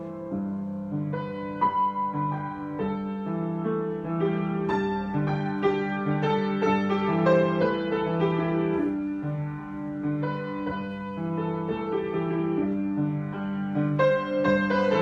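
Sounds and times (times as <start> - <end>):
solo piano improvisation: 0.0 - 15.0.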